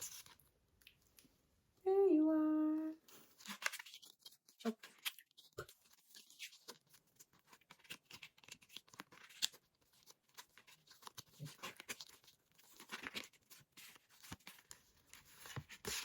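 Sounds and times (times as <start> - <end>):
paper cards rustling: 3.1 - 16.0.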